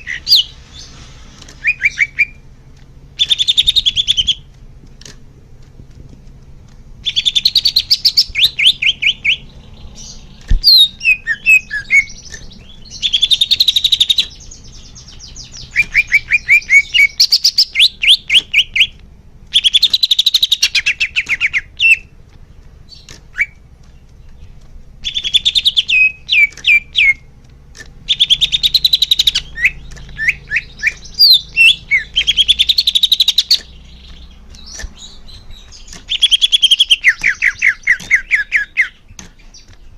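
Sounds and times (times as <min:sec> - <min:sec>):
bird singing chirps and trills: 0:00.0 - 0:04.6, 0:06.6 - 0:39.9.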